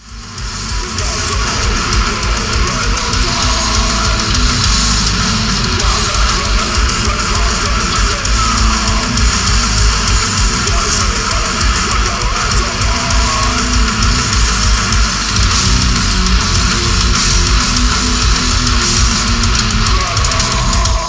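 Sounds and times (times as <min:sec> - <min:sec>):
death metal band playing live: 0:00.0 - 0:21.0.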